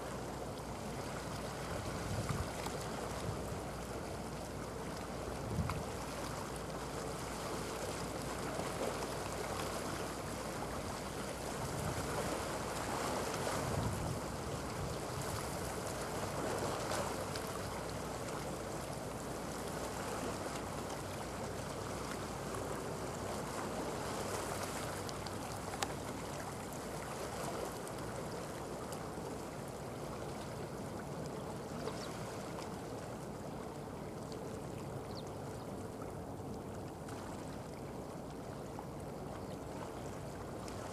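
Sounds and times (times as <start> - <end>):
distant boat engine hum: 0.0 - 40.9
water at the shoreline: 0.0 - 40.9
wind: 0.0 - 40.9.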